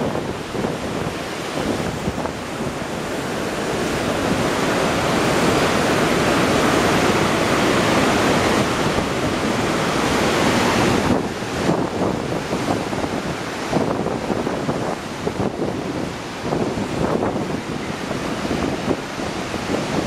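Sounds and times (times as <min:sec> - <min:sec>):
whitewater rapids roaring: 0:00.0 - 0:20.0.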